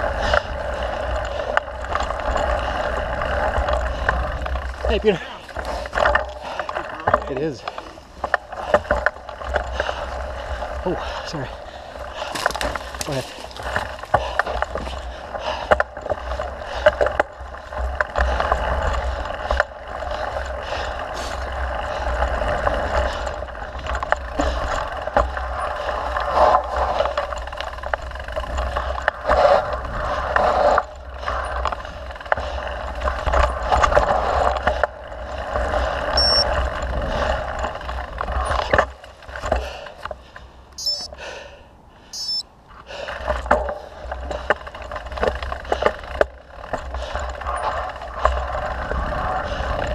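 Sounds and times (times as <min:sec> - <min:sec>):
bike rattles and clicks: 0:00.0 - 0:49.9
bike tyres rolling on dirt: 0:00.0 - 0:49.9.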